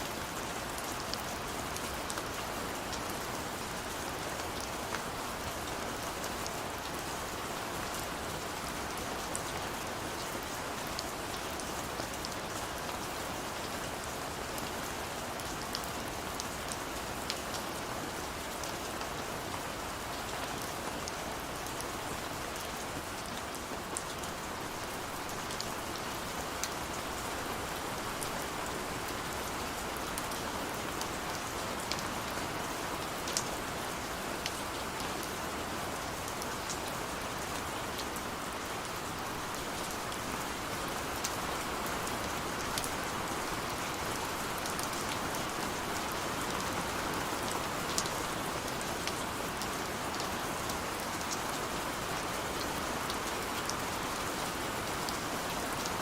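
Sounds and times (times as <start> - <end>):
steady rain on surfaces: 0.0 - 56.0.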